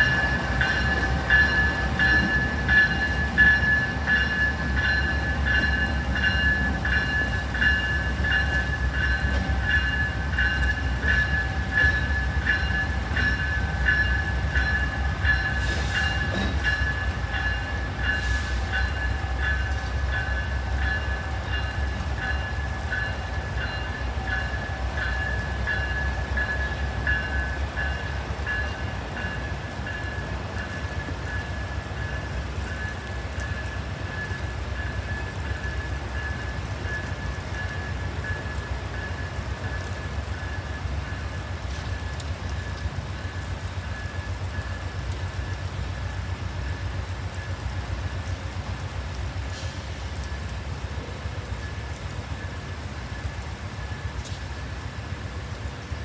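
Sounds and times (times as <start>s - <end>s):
locomotive bell ringing: 0.0s - 45.8s
train rumble: 0.0s - 56.0s.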